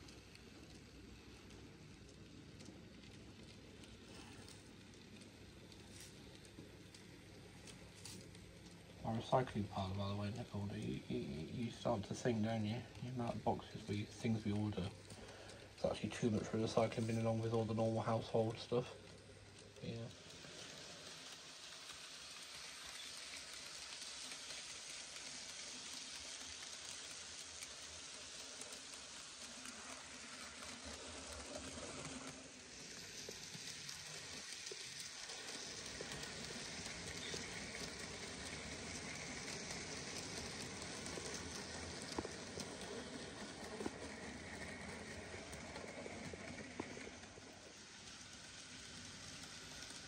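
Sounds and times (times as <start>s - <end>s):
model train rolling on track: 0.0s - 50.0s.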